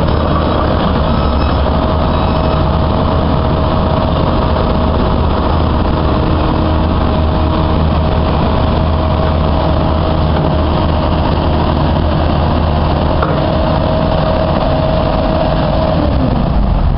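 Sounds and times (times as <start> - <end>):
thin steady whine: 0.0 - 15.7
excavator diesel engine running: 0.0 - 16.9.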